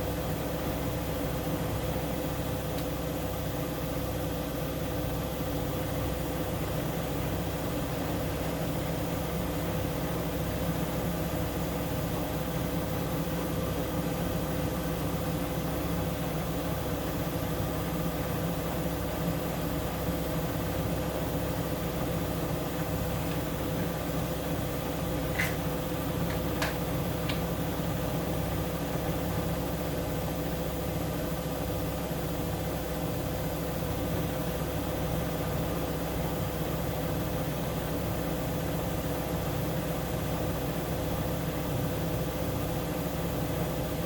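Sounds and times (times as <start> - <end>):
washing machine hum: 0.0 - 44.0.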